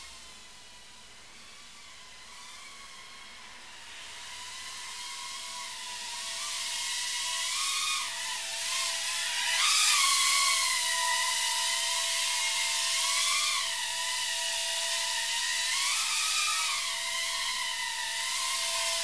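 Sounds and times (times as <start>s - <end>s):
small drone motors whining: 0.0s - 19.0s.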